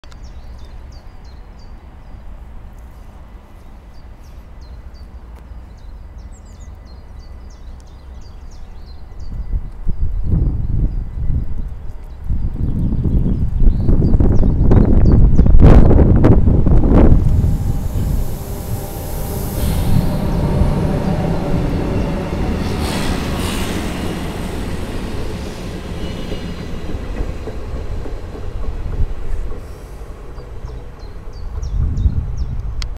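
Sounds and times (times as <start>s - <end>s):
train wheels rumbling on rails: 2.6s - 32.9s.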